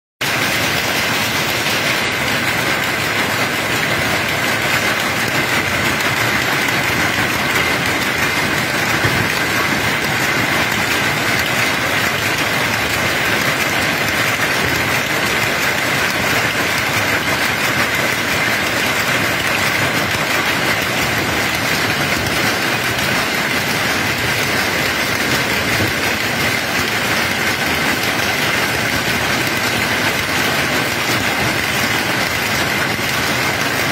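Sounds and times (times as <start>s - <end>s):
power looms clattering: 0.2s - 33.9s.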